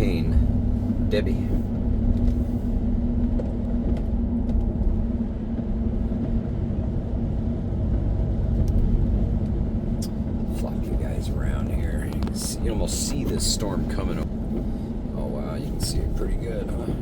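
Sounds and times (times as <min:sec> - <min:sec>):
car engine and road rumble: 0:00.0 - 0:17.0
low hum: 0:00.0 - 0:17.0.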